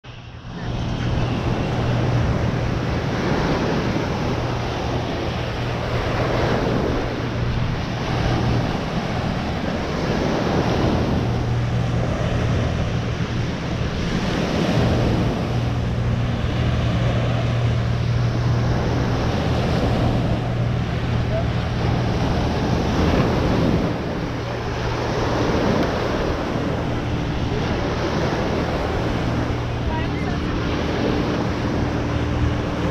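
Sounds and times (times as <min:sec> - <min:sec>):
steady low hum: 0:00.0 - 0:32.9
ocean surf washing onto beach: 0:00.1 - 0:32.9
wind buffeting microphone: 0:00.1 - 0:32.9.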